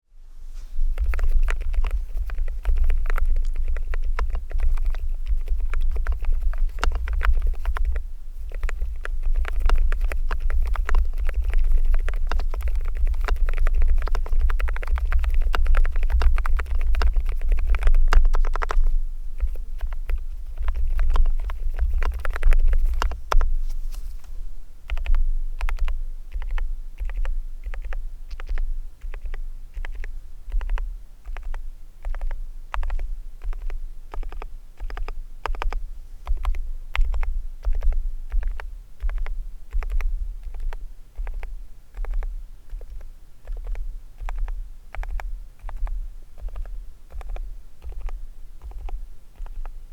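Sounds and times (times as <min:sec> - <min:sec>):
keyboard keys clicking with thud: 0:00.9 - 0:23.6, 0:24.9 - 0:49.8
keyboard typing: 0:00.9 - 0:23.6, 0:24.9 - 0:49.7.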